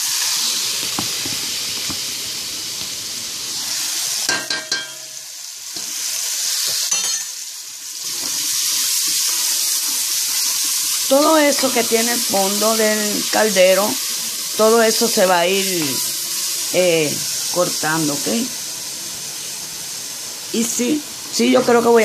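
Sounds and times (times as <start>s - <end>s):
vegetables sizzling in a pot: 0.0s - 22.0s.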